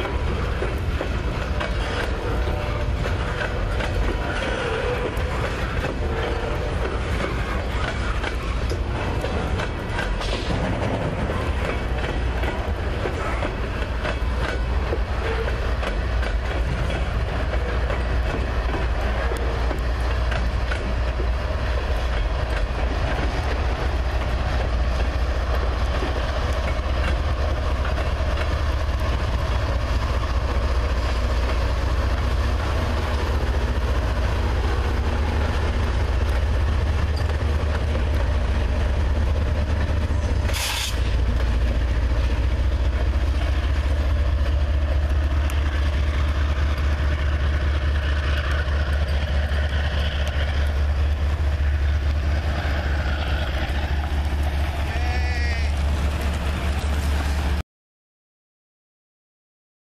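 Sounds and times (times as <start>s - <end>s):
diesel locomotives passing: 0.0s - 57.6s
freight train wheels clickety-clack: 0.0s - 57.6s.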